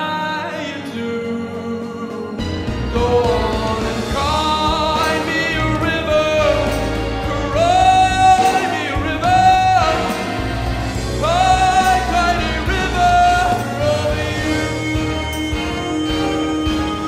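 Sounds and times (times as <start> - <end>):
band playing: 0.0 - 17.0
man singing into microphone: 0.0 - 17.0.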